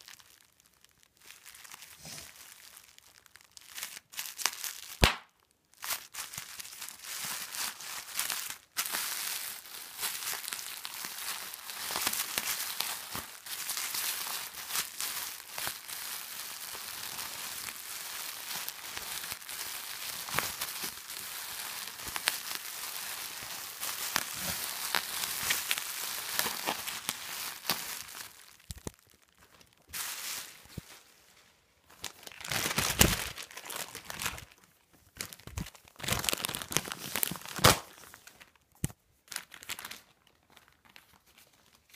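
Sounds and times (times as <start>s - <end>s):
plastic crumpling: 0.0s - 41.9s.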